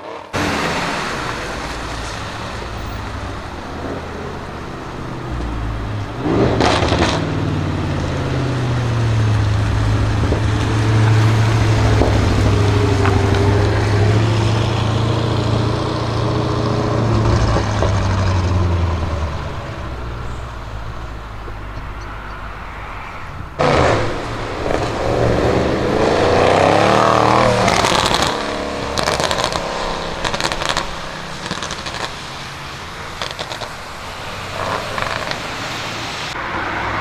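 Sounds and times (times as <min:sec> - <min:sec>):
car passing by: 0:00.1 - 0:37.0.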